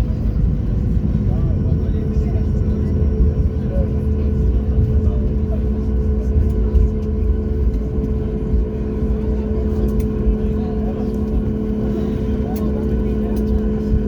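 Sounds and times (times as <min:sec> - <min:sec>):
droning hums: 0:00.0 - 0:14.0
engine and airflow rumble: 0:00.0 - 0:14.0.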